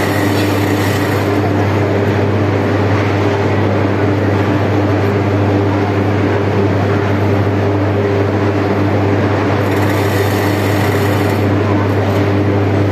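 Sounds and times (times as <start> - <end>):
deep industrial hum with tones: 0.0 - 12.9.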